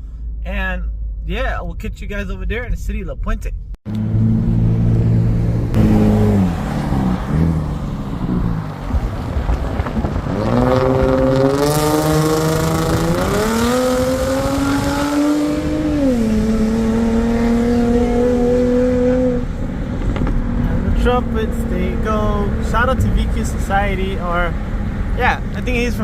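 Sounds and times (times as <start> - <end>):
car engine accelerating: 3.9 - 26.0.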